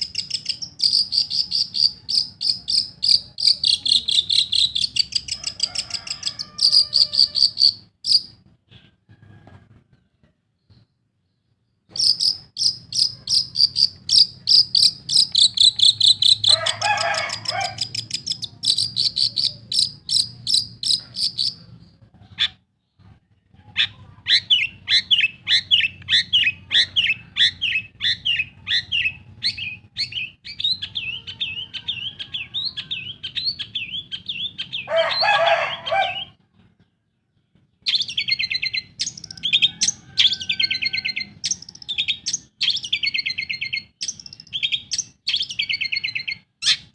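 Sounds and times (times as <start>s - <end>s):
harsh grating bird call: 0.0s - 8.4s, 11.9s - 21.7s, 23.7s - 36.4s, 37.9s - 46.9s.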